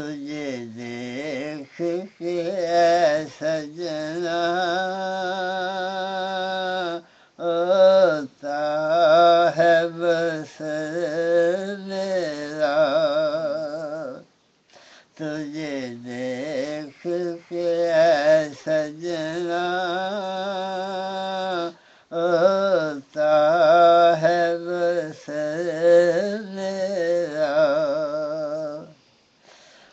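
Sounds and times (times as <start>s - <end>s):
man singing unaccompanied: 0.0s - 29.9s.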